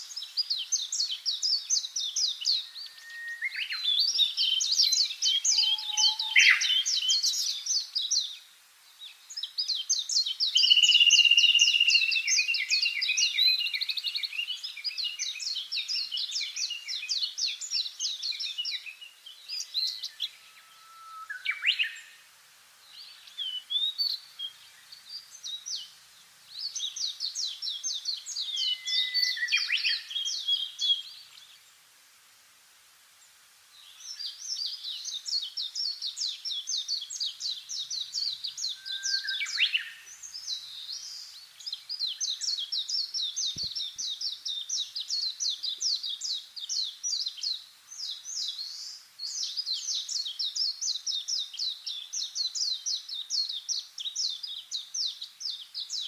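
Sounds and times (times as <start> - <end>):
songbirds singing trills: 0.0 - 31.8, 33.2 - 56.0.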